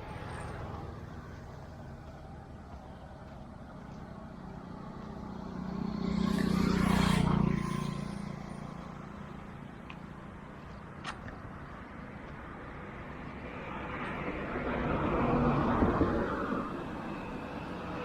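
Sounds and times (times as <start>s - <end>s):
motor vehicle passing by: 0.0s - 10.7s, 13.3s - 18.0s.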